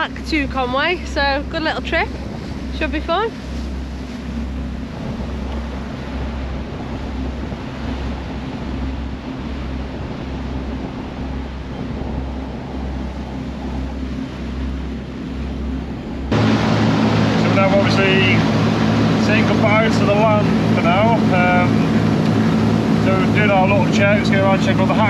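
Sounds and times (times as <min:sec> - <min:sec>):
boat engines droning: 0:00.0 - 0:25.0
water rushing past hull: 0:00.0 - 0:25.0
wind buffeting microphone: 0:00.0 - 0:25.0.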